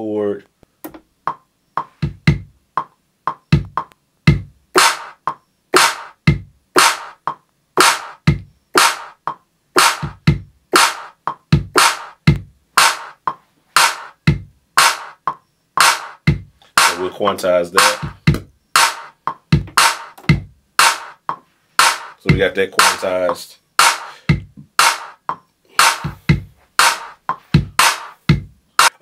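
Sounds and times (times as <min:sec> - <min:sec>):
drum machine clap: 0:01.3 - 0:29.0
kick drum thumping: 0:02.0 - 0:02.6, 0:03.3 - 0:17.0, 0:17.8 - 0:23.0, 0:23.8 - 0:29.0.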